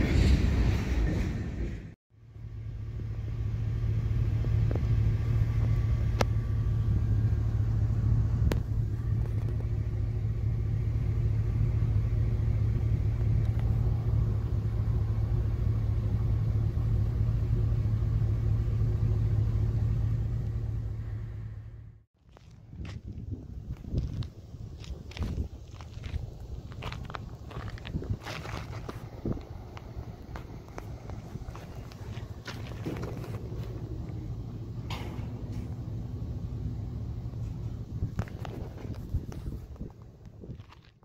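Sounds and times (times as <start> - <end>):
freight train rolling rumble: 0.0 - 22.0, 22.6 - 40.7.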